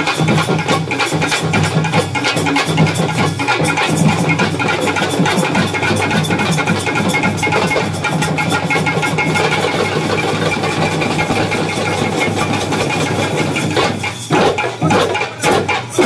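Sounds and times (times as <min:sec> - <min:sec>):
frame drums and bass drum roll: 0:00.0 - 0:16.0.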